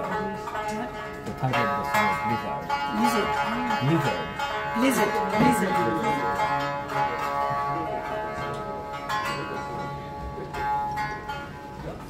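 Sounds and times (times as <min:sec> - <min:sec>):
plucked shamisen trio: 0:00.0 - 0:12.0.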